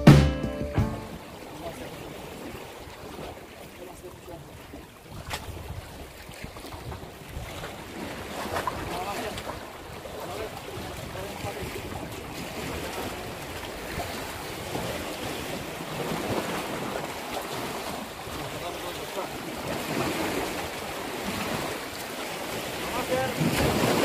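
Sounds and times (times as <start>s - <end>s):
sea waves washing against rocks: 1.0s - 24.0s
wind buffeting microphone: 4.4s - 24.0s.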